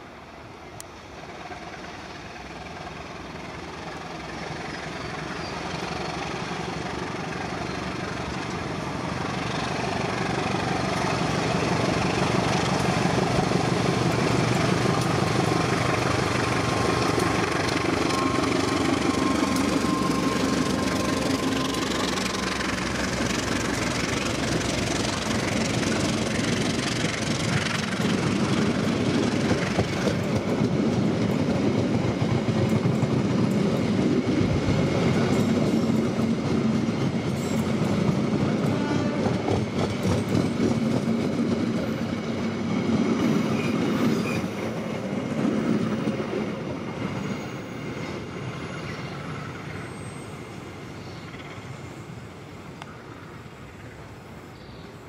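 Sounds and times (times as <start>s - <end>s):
train running on tracks: 0.0s - 55.0s.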